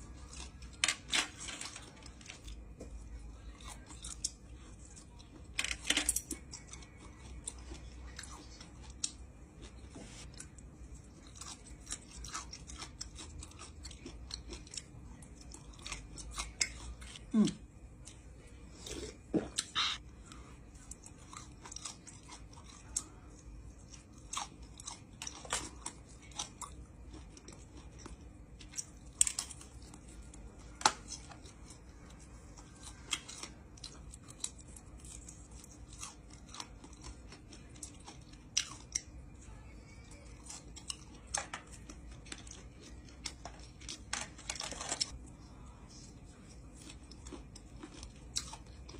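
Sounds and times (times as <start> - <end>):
person chewing meat: 0.0 - 0.8, 1.8 - 5.5, 6.4 - 39.4, 40.1 - 44.1, 45.0 - 48.9.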